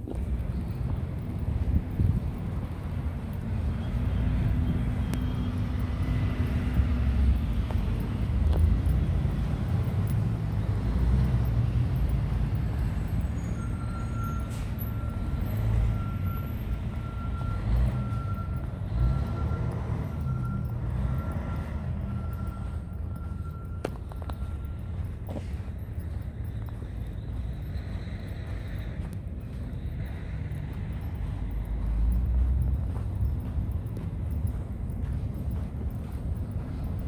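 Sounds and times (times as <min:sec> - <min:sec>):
distant traffic: 0:00.0 - 0:37.0.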